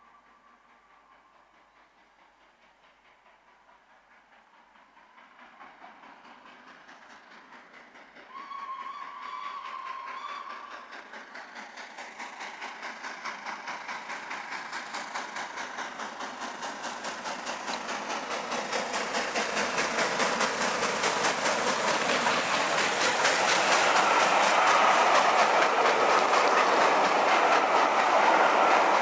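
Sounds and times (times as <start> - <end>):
steam locomotive exhaust beats: 0.0 - 29.0.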